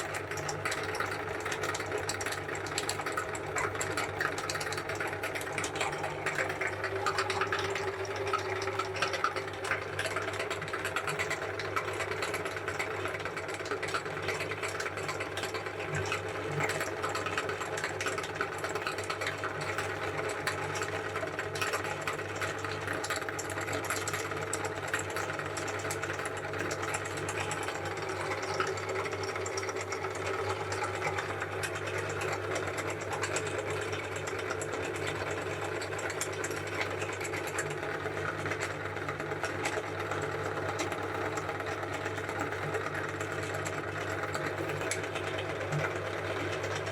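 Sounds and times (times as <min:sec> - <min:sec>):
meat grinder motor humming: 0:00.0 - 0:46.9.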